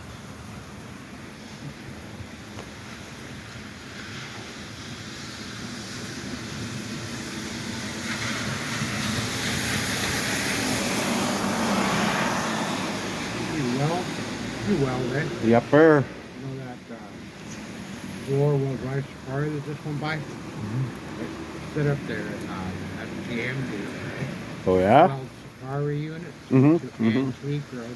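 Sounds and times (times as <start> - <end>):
vehicle passing on wet road: 0.0 - 27.9.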